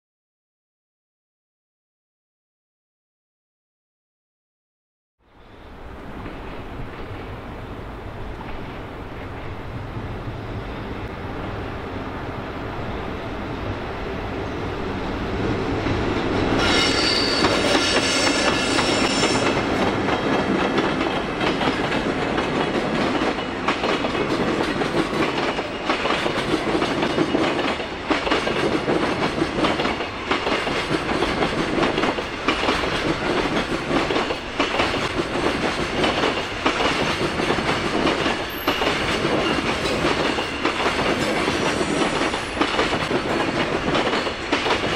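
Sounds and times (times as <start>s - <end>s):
freight train passing: 5.2s - 44.9s.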